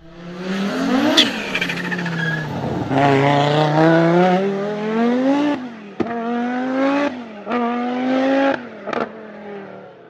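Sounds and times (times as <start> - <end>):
racing car engine accelerating: 0.0 - 9.7.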